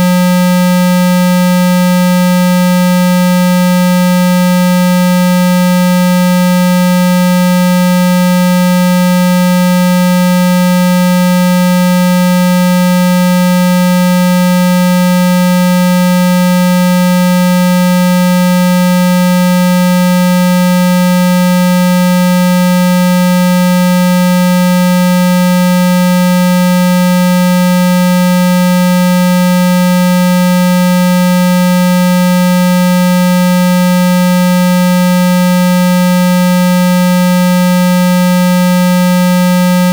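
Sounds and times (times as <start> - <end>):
low buzzing tone from phone: 0.0 - 39.9.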